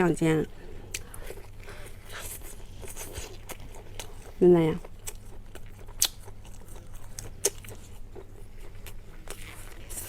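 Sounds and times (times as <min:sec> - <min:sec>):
chewing with crunches: 0:00.0 - 0:10.0.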